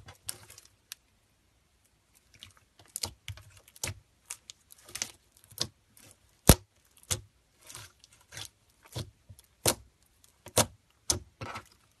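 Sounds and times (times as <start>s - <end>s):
slime squelching: 0.0s - 1.0s, 1.9s - 12.0s.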